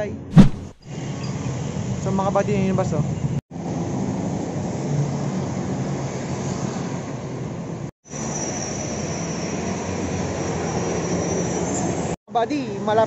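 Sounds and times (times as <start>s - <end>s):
road traffic noise: 0.4s - 12.9s.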